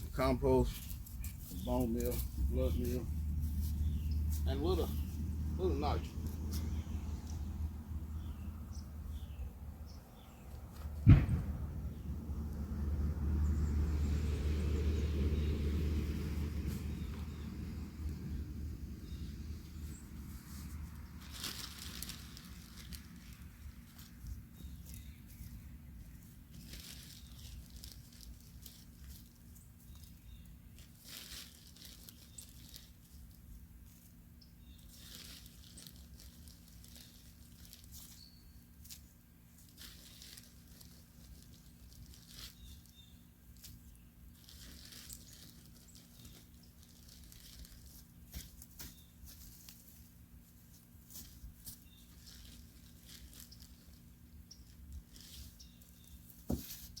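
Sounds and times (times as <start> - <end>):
rustling and scraping of compost: 0.0 - 57.0.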